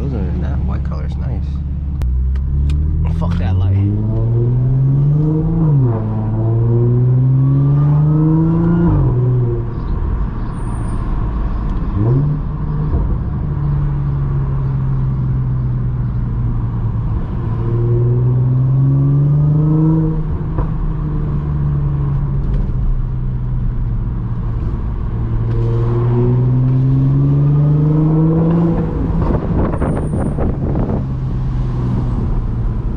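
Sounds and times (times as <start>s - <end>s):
car engine accelerating: 0.0s - 32.9s.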